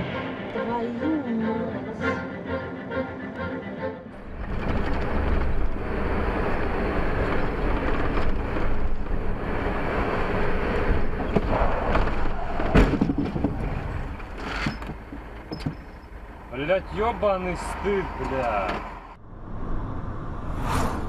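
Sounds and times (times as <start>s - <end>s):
car driving rumble: 4.1s - 21.0s.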